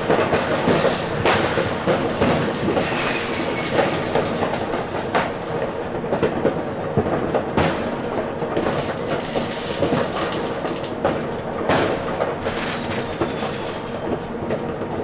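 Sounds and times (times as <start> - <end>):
firecrackers banging and crackling: 0.0 - 15.0.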